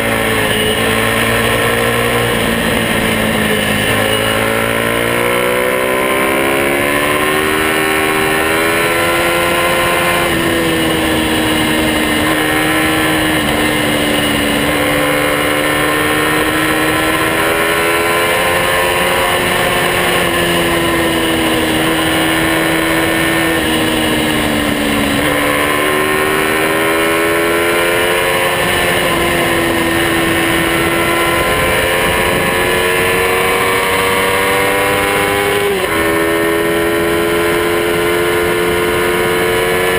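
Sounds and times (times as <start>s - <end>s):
minibike engine accelerating: 0.0s - 39.9s.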